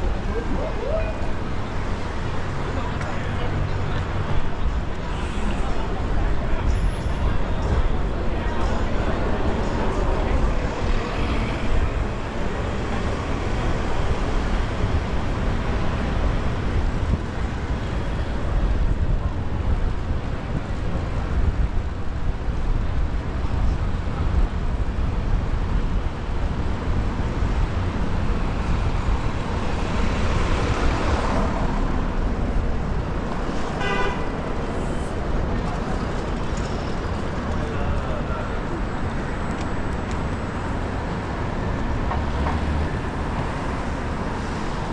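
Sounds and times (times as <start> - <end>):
city traffic noise: 0.0 - 44.9
wind rumbling over microphone: 3.6 - 42.1.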